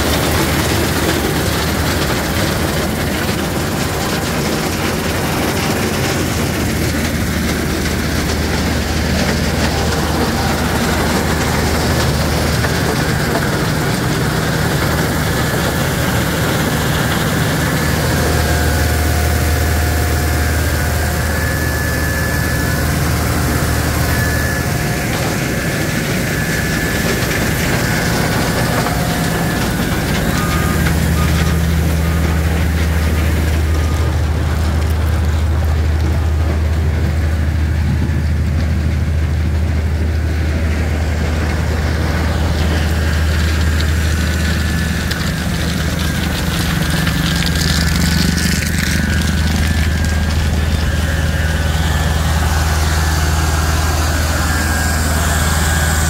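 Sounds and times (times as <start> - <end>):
screening machine diesel drone: 0.0 - 56.0.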